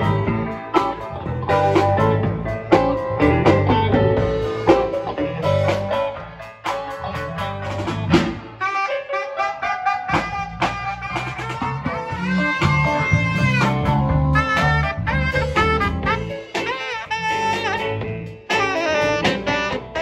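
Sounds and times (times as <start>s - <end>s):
bass guitar: 0.0s - 20.0s
electric guitar: 0.0s - 20.0s.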